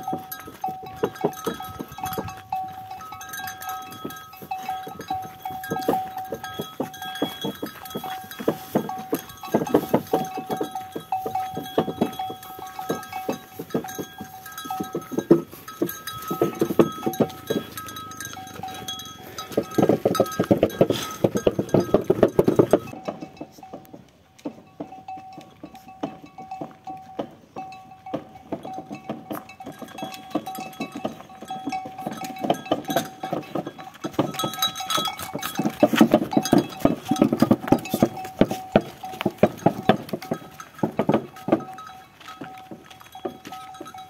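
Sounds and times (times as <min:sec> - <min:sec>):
bells ringing: 0:00.0 - 0:24.0, 0:24.6 - 0:44.0
hooves and wooden cart clattering: 0:00.0 - 0:44.0.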